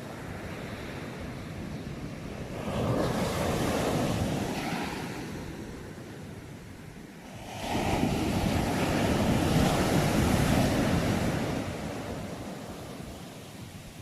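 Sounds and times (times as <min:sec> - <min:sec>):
ocean wave breaking: 0:02.0 - 0:14.0.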